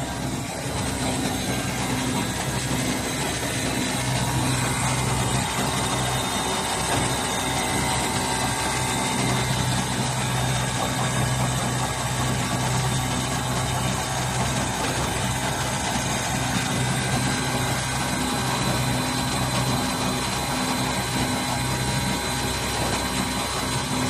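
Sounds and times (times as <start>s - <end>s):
sewing machine humming: 0.0s - 24.0s.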